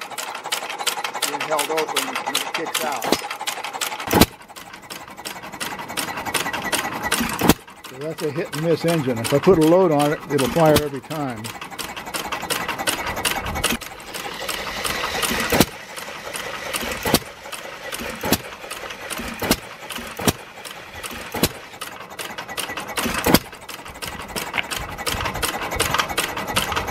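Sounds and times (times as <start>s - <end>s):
engine valve gear clattering: 0.0s - 26.9s
engine firing knocks: 2.8s - 26.9s.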